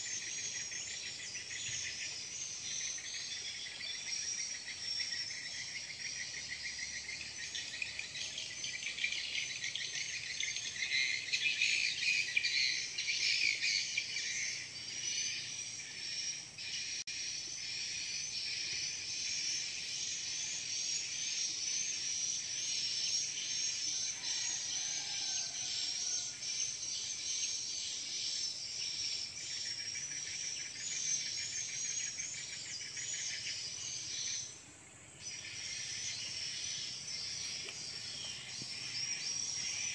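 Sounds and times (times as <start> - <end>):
birds chirping: 0.0 - 39.9
insects trilling: 0.0 - 39.9.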